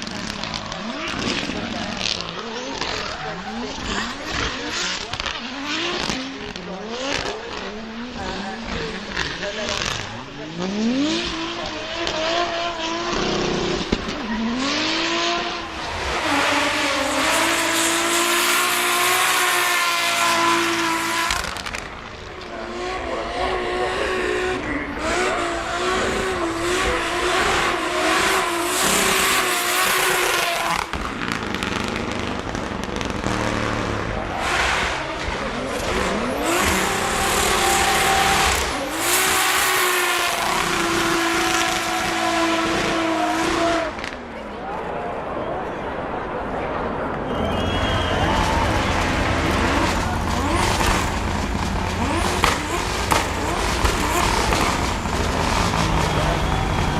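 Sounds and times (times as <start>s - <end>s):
high-revving car engines: 0.0s - 56.9s.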